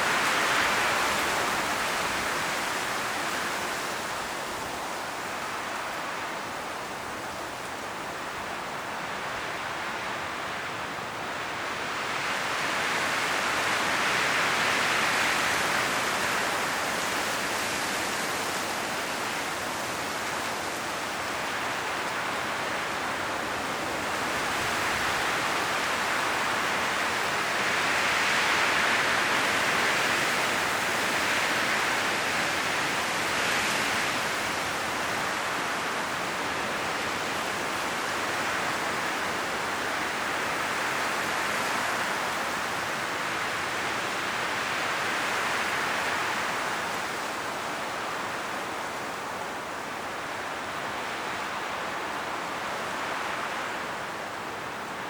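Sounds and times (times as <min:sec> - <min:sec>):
wind rustling tree leaves: 0:00.0 - 0:55.0.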